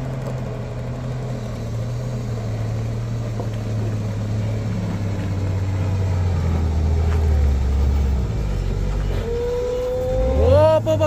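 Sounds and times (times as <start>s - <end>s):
heavy vehicle engine droning: 0.0s - 11.0s.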